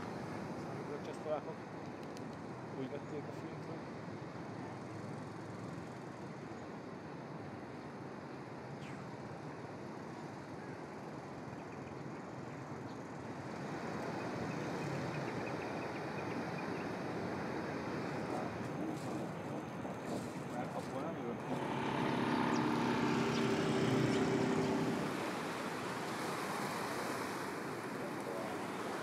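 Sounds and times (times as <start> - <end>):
steady rushing outdoor noise: 0.0 - 29.0.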